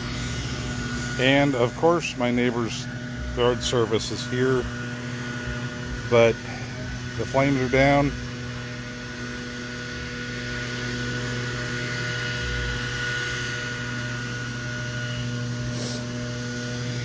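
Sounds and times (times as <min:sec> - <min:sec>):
lawn equipment engine droning: 0:00.0 - 0:17.0.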